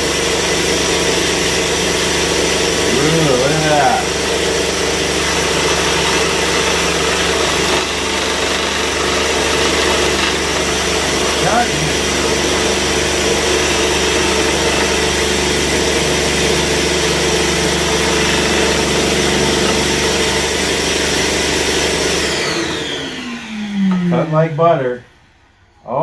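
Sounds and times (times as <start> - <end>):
scroll saw cutting: 0.0 - 24.3.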